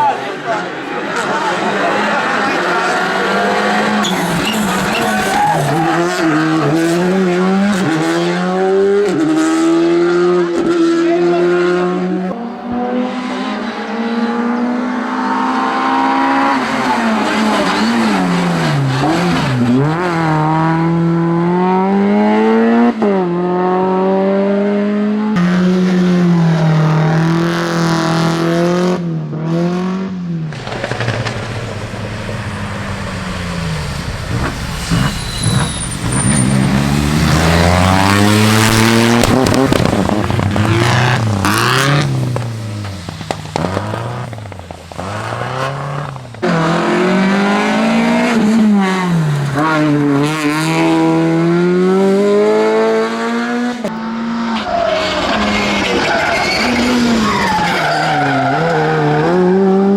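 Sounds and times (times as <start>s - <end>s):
rally car engines revving hard: 0.0s - 59.9s.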